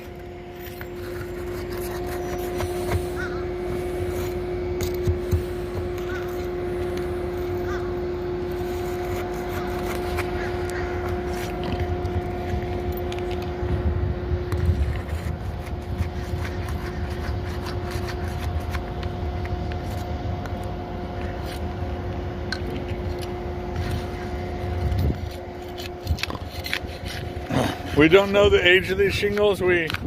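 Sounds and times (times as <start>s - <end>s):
scraping and clicking of shingles: 0.0s - 7.1s, 8.5s - 13.6s, 14.5s - 21.7s, 22.6s - 30.0s
mechanical hum with low rumble: 0.0s - 30.0s.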